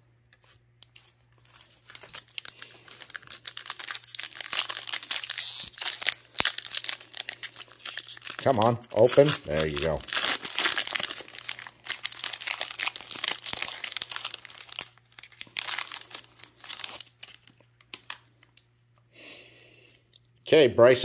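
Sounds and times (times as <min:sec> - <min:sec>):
foil wrapper crinkling and tearing: 0:00.4 - 0:18.7.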